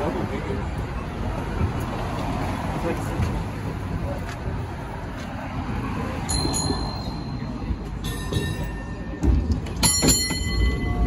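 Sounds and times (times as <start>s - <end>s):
streetcar rumbling on rails: 0.0s - 11.0s.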